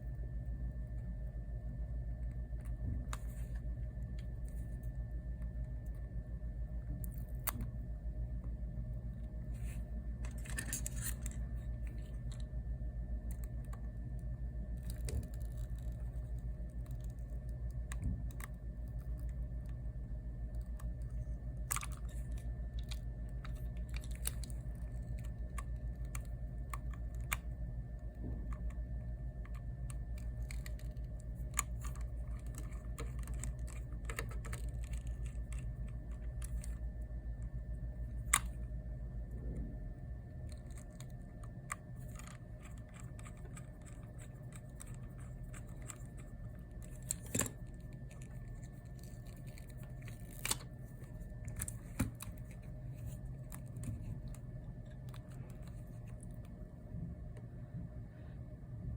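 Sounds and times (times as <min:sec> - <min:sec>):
low electrical hum: 0:00.0 - 0:58.9.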